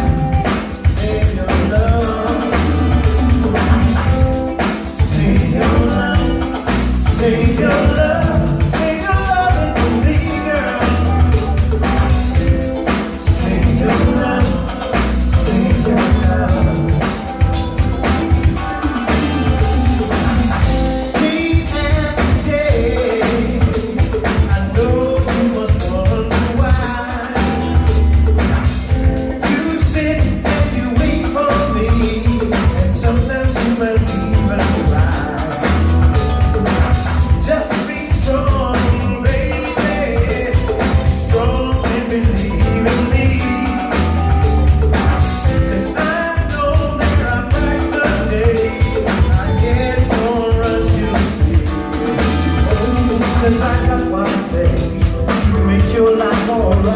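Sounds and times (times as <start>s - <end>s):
drum kit beat: 0.0s - 56.9s
heavy bass line: 0.0s - 56.9s
person singing: 0.0s - 56.9s.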